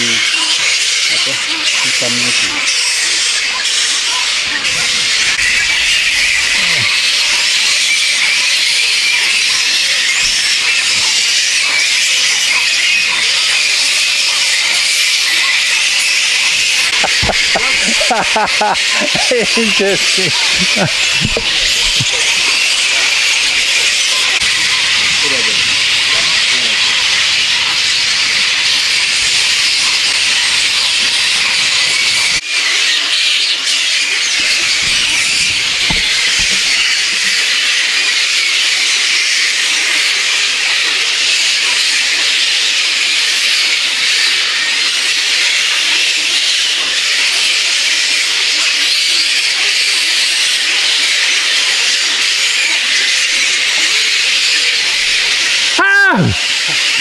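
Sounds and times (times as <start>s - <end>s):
fruit bats squeaking and chattering: 0.0s - 57.0s.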